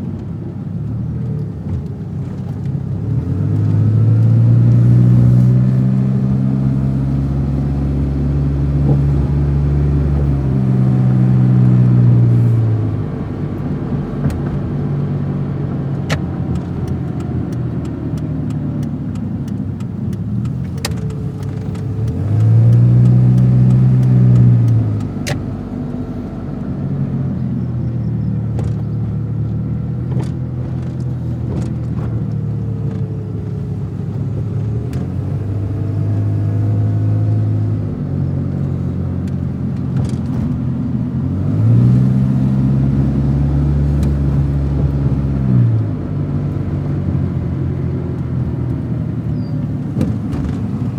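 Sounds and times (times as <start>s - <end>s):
car engine revving: 1.4s - 50.9s.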